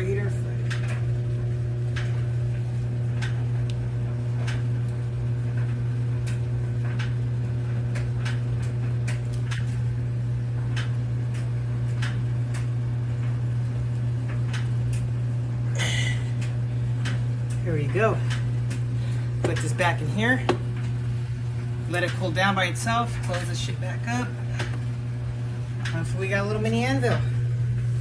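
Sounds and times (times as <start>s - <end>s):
furnace electrical hum: 0.0s - 28.0s.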